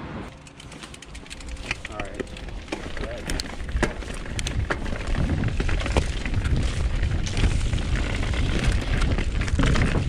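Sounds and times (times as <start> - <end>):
bike rattling over rough trail: 0.3 - 10.0
wind buffeting microphone: 1.4 - 10.0.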